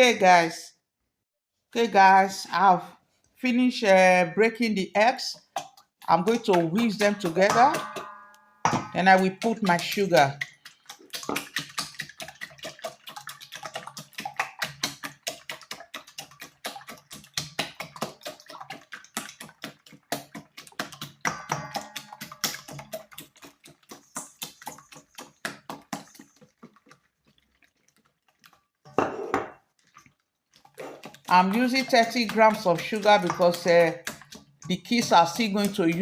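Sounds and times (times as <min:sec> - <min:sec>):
whisk clicking against bowl: 0:05.3 - 0:28.6, 0:30.0 - 0:36.0.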